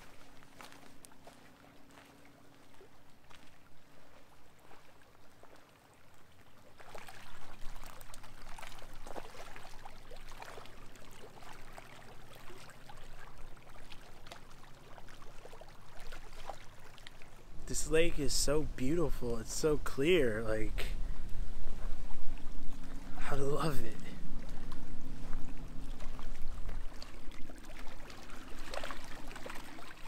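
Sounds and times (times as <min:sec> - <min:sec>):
small splashes: 0:00.0 - 0:30.0
water lapping at shoreline: 0:00.0 - 0:30.0.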